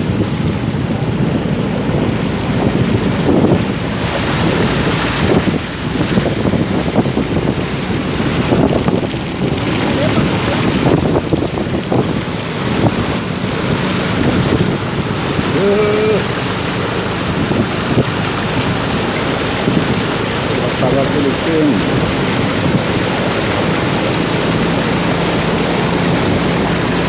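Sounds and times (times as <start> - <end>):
rushing splashing water: 0.0 - 27.0
wind buffeting microphone: 0.0 - 27.0.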